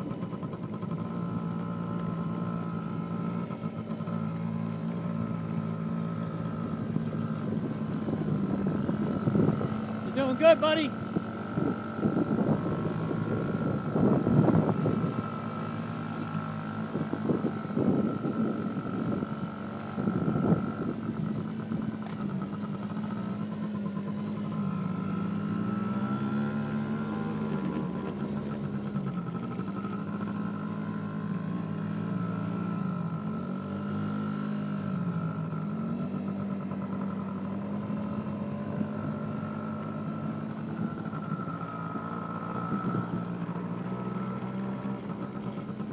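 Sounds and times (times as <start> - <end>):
atv engine revving: 0.0 - 45.9.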